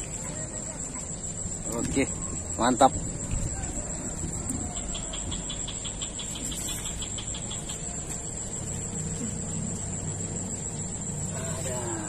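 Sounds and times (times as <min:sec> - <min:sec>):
insects chirping: 0:00.0 - 0:12.0
steady high-pitched whine: 0:00.0 - 0:12.0.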